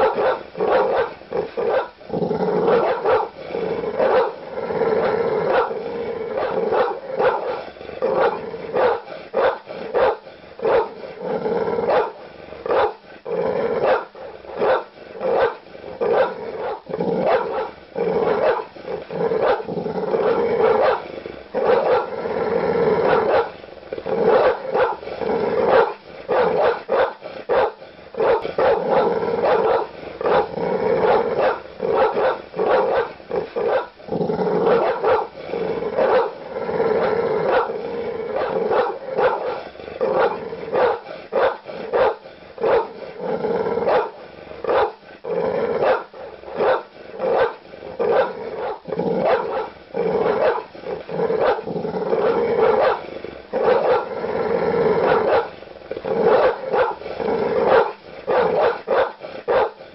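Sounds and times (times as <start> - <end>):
dog growling: 0.0 - 59.9
large dog barking aggressively: 0.0 - 59.9.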